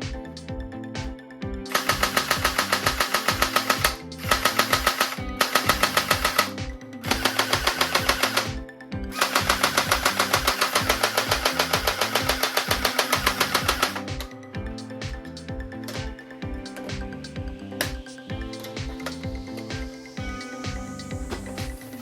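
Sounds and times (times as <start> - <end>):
fast driving background music: 0.0 - 22.0
stepping bass notes: 0.0 - 22.0.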